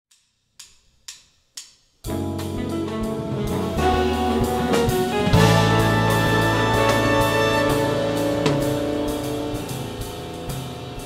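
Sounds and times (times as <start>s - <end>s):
jazz big band playing: 2.1s - 11.0s.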